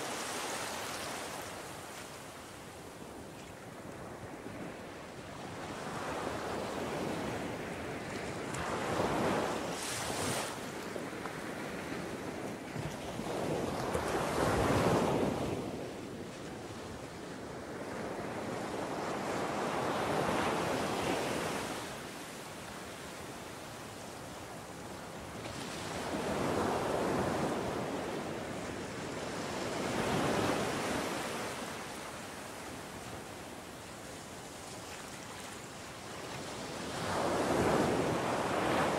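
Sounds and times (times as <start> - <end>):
surf washing on sandy beach: 0.0 - 38.9.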